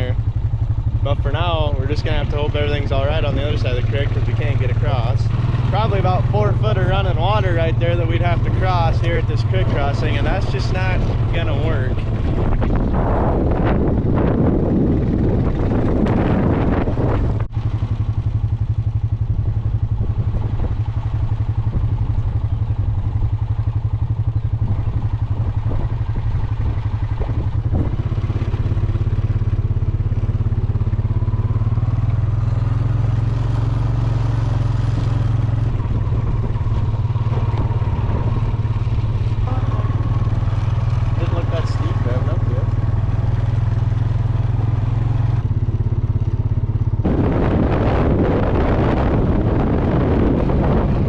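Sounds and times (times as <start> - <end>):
vehicle engine droning: 0.0 - 51.0.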